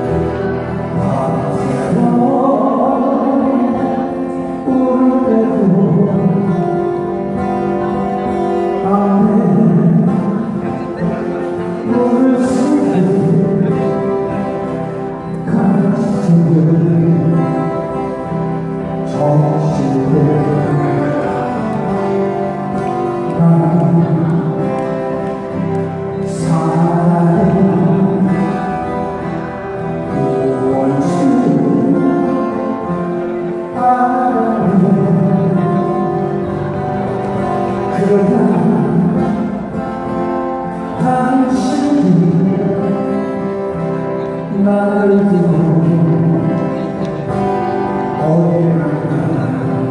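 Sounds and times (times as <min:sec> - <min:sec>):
acoustic guitars playing: 0:00.0 - 0:49.9
person singing: 0:00.0 - 0:49.9.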